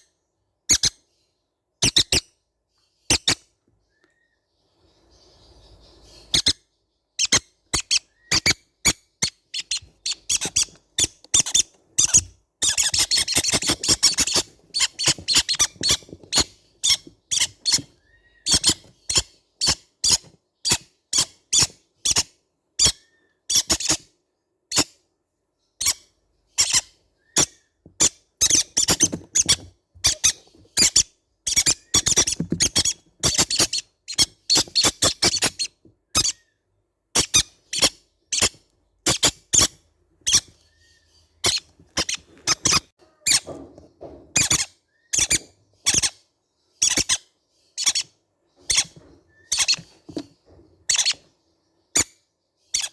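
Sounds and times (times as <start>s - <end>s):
parrot chicks squeaky chirping: 0.7s - 1.1s, 1.8s - 2.4s, 3.0s - 3.5s, 5.0s - 24.1s, 24.7s - 25.0s, 25.8s - 52.9s.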